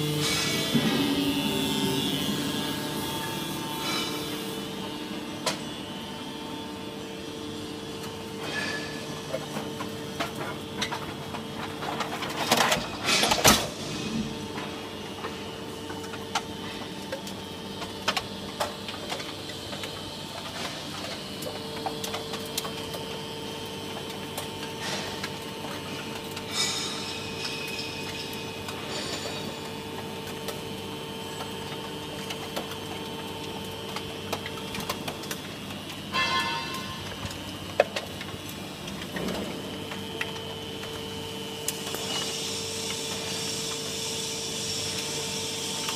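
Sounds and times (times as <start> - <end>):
hydraulic power unit humming: 0.0 - 45.9.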